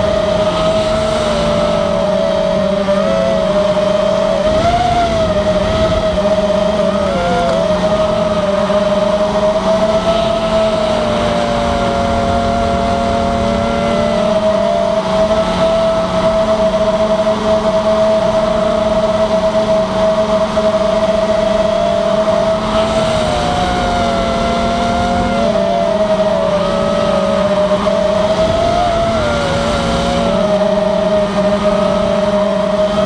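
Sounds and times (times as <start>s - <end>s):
drone motors whining: 0.0s - 33.0s
low rush of wind: 0.0s - 33.0s.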